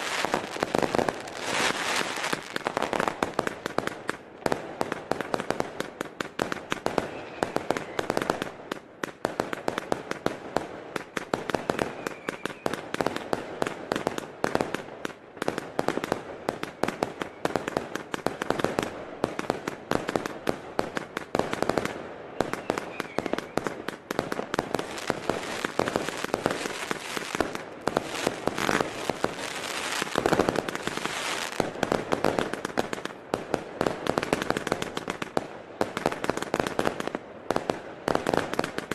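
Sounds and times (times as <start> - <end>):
fireworks cake firing: 0.0 - 38.9.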